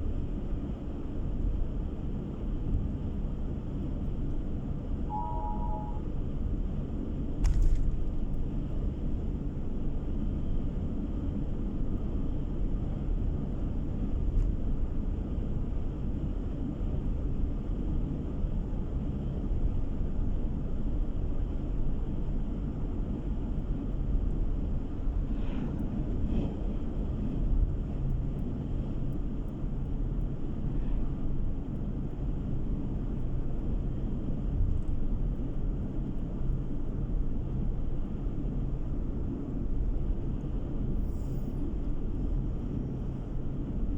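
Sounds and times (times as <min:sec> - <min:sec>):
road and engine rumble inside car: 0:00.0 - 0:43.9.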